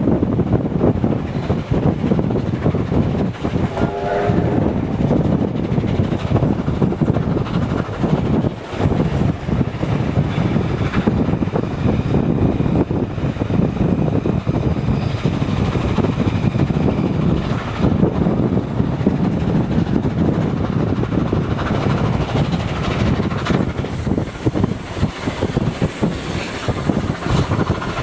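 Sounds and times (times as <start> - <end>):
train rumbling: 0.0 - 28.0
wind on microphone: 0.0 - 28.0.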